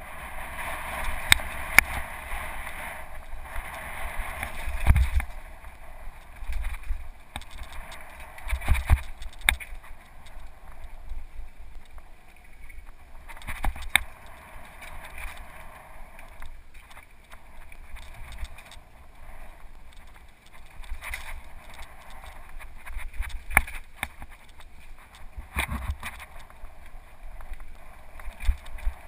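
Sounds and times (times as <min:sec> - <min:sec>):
wind rushing over microphone: 0:00.0 - 0:29.0
bike knocking and rattling: 0:00.9 - 0:26.7.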